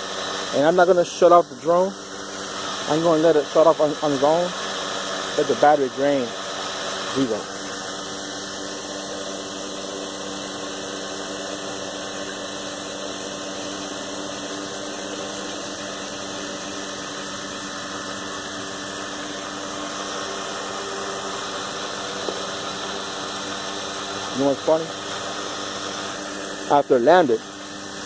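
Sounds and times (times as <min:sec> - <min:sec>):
quadcopter motors idling: 0:00.0 - 0:28.0.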